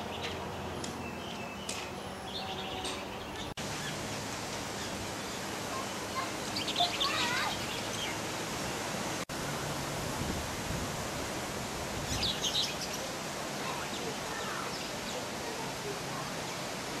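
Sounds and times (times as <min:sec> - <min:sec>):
small birds chirping: 0:00.0 - 0:09.0, 0:12.0 - 0:16.8
background hiss: 0:00.0 - 0:17.0.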